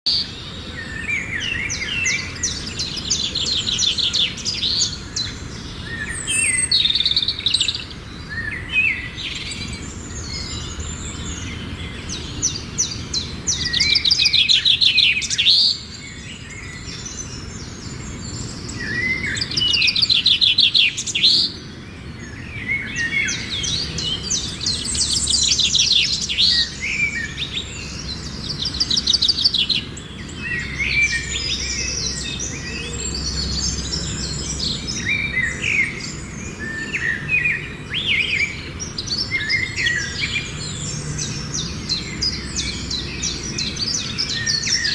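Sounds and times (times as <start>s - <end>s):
lovebirds chattering and chirping: 0.1s - 44.9s.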